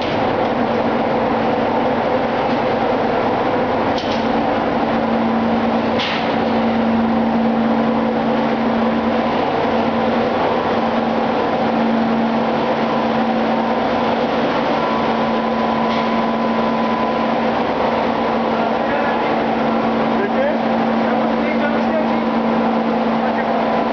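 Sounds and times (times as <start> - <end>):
engine room diesel drone: 0.0 - 23.9.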